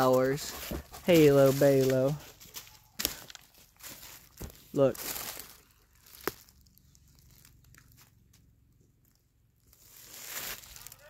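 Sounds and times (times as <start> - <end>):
dry leaves crunching: 0.0 - 11.0.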